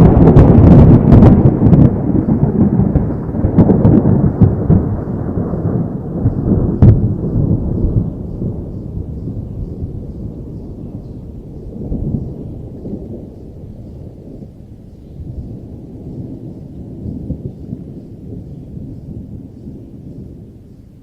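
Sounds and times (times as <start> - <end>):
rolling thunder: 0.0 - 21.0.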